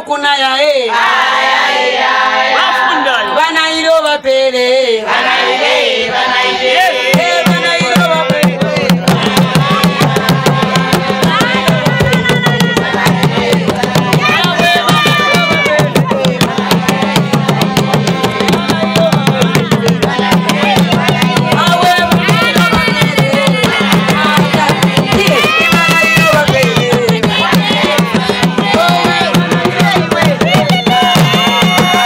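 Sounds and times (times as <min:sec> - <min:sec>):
group of voices singing: 0:00.8 - 0:32.0
hand drums playing dance beat: 0:06.3 - 0:32.0.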